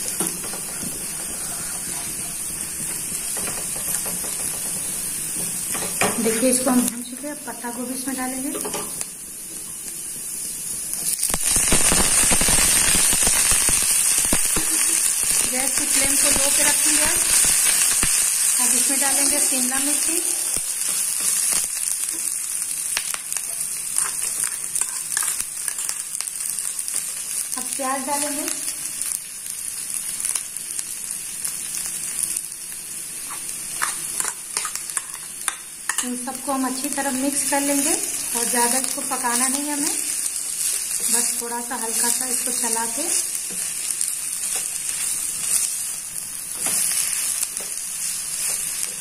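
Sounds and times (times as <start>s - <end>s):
oil sizzling in a frying pan: 0.0s - 49.0s.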